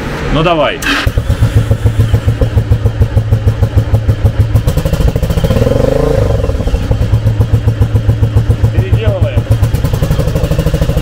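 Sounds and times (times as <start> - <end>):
motorcycle engine idling and revving: 0.8 - 11.0.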